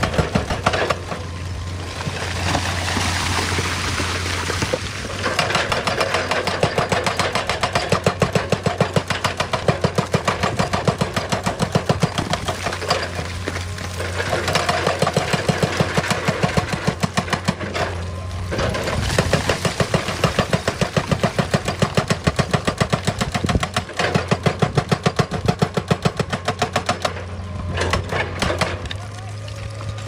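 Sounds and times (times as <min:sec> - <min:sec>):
hydraulic rock breaker hammering stone: 0:00.0 - 0:01.3, 0:04.1 - 0:30.0
diesel engine drone: 0:00.0 - 0:30.0.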